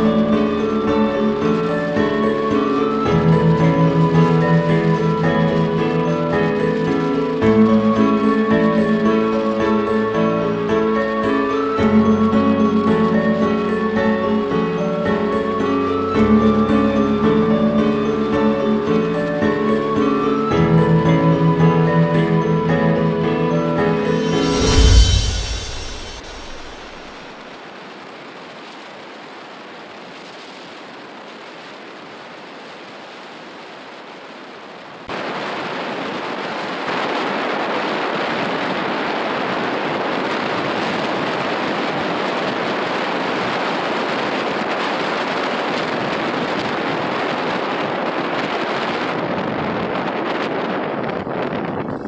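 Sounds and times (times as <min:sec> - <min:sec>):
rushing water: 0:00.0 - 0:52.0.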